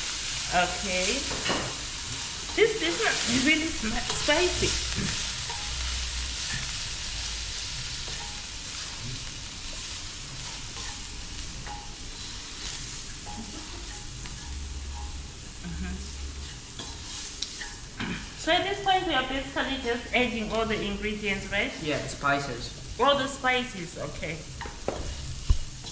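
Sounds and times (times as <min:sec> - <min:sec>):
chicken sizzling in a pan: 0:00.0 - 0:25.9.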